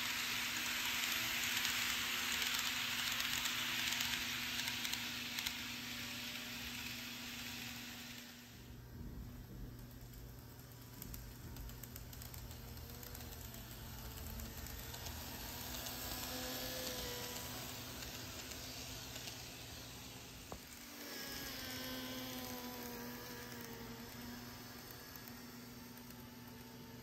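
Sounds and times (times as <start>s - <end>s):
model train wheels rattling on rail: 0.0s - 8.8s, 9.7s - 27.0s
faint motor whine: 0.0s - 27.0s.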